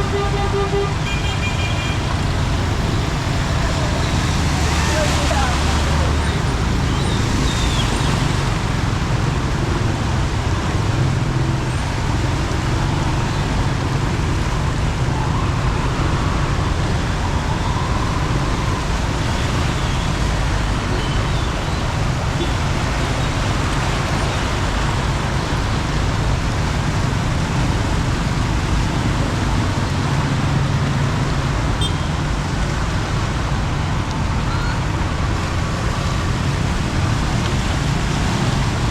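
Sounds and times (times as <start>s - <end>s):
heavy rain: 0.0s - 38.9s
road traffic: 0.0s - 38.9s.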